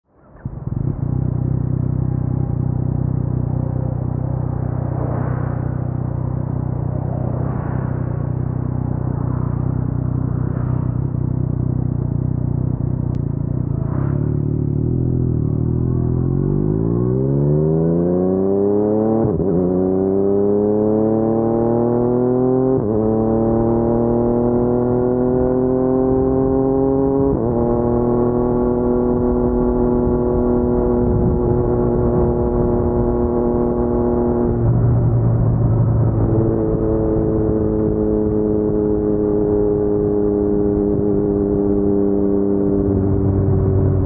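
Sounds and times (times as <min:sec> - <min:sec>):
motorcycle engine idling and accelerating: 0:00.0 - 0:44.0.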